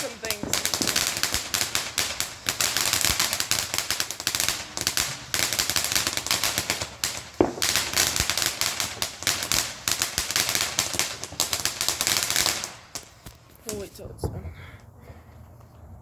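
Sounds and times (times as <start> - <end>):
fireworks crackling: 0.0 - 14.6.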